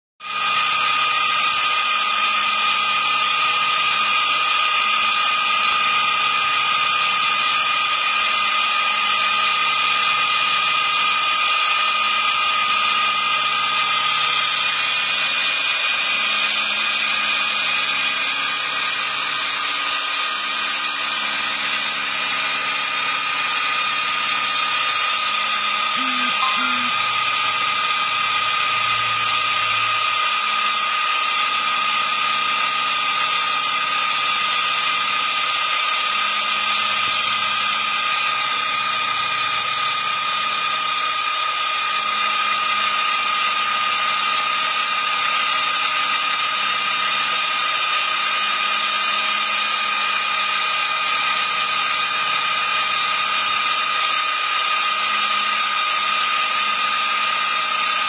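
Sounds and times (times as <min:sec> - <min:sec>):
milling machine spindle whine: 0:00.2 - 0:58.0.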